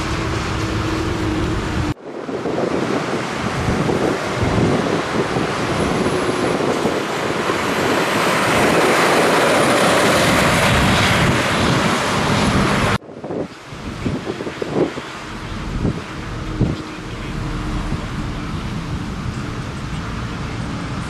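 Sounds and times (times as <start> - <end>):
truck driving on road: 0.0 - 21.0.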